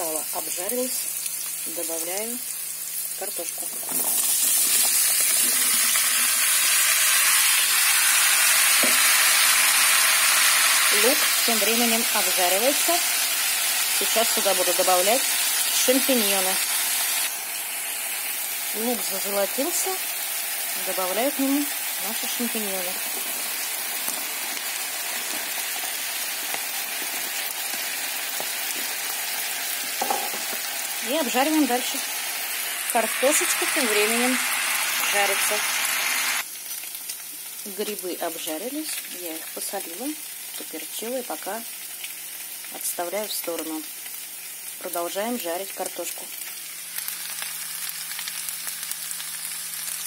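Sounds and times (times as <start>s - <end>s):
loud frying sizzle: 0.0s - 50.0s.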